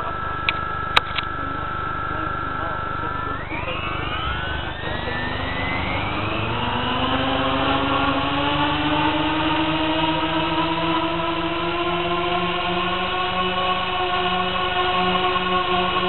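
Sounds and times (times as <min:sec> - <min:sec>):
model aircraft motors whining: 0:00.0 - 0:16.0.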